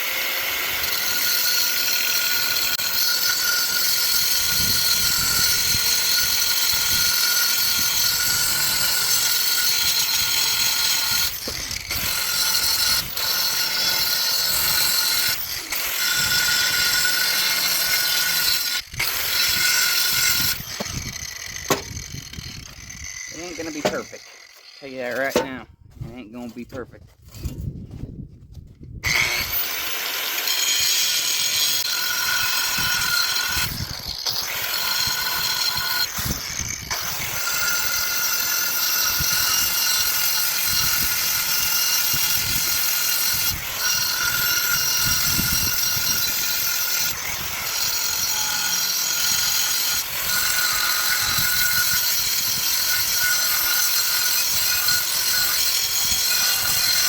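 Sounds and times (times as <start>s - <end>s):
power tool whining: 0.0s - 25.6s, 29.0s - 57.0s.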